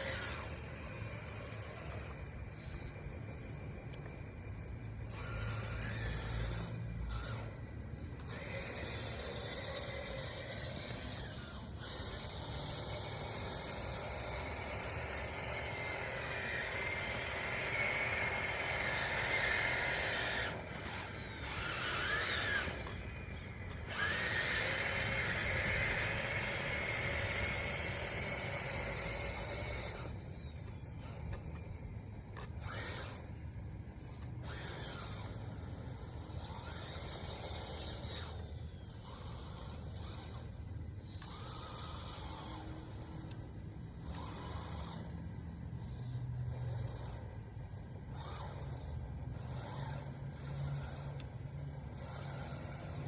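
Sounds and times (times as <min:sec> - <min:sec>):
electric motors and gears whining: 0:00.0 - 0:53.0.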